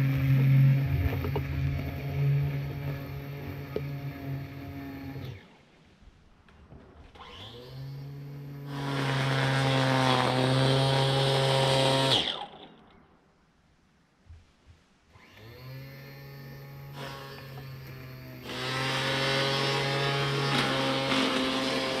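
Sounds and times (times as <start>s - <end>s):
grass trimmer electric motor running: 0.0s - 5.6s, 7.2s - 12.8s, 15.2s - 22.0s.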